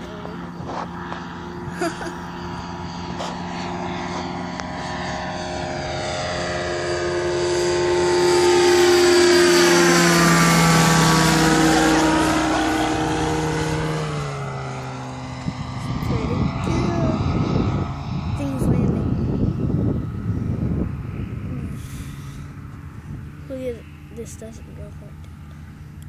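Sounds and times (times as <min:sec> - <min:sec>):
light aircraft passing overhead: 0:00.0 - 0:26.0.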